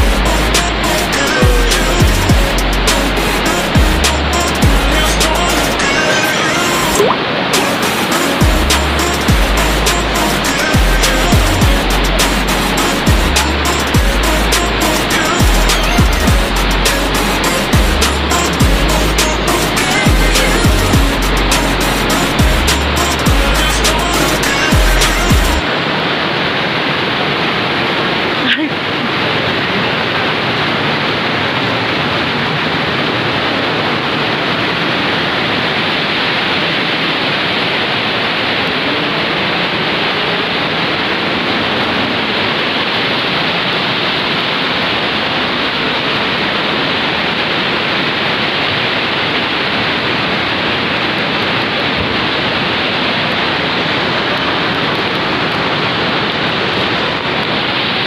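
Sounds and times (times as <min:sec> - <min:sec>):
water rushing over a dam: 0:00.0 - 0:58.0.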